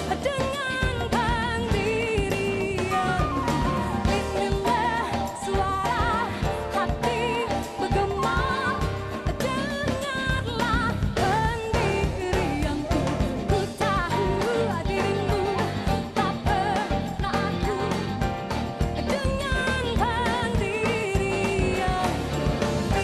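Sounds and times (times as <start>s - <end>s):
drums: 0.0s - 23.0s
guitar: 0.0s - 23.0s
woman singing: 0.0s - 23.0s.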